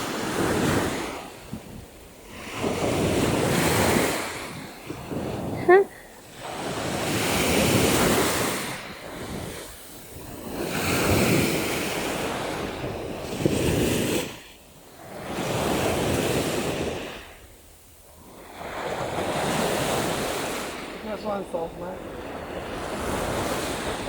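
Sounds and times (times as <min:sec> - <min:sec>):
small waves washing on sand: 0:00.0 - 0:24.0.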